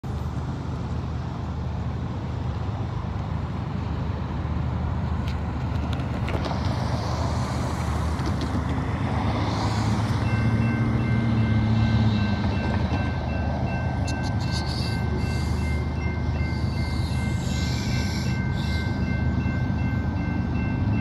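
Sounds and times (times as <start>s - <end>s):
cars driving by: 0.1s - 21.0s.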